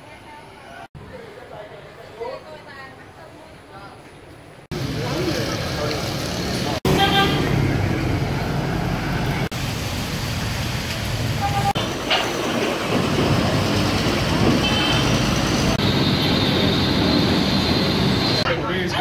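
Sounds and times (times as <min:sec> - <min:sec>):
street traffic rumbling: 0:00.0 - 0:19.0.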